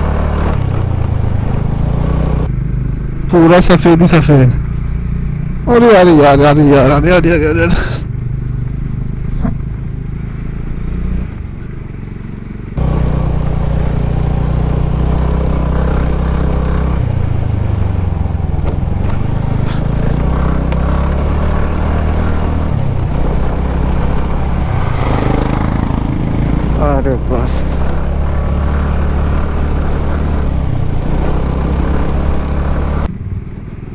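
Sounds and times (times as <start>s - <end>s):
scooter engine revving: 0.0s - 3.5s, 4.7s - 33.9s.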